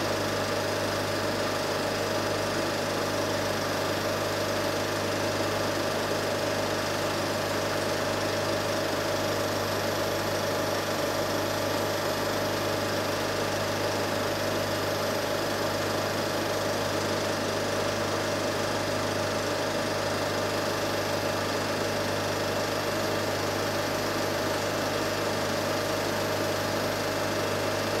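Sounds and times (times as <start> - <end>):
film projector whirring: 0.0 - 28.0.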